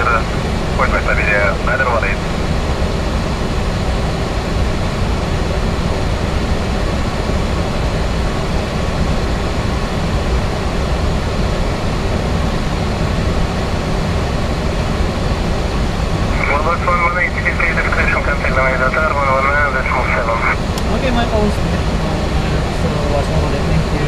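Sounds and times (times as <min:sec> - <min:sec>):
aircraft cockpit air rush: 0:00.0 - 0:24.0.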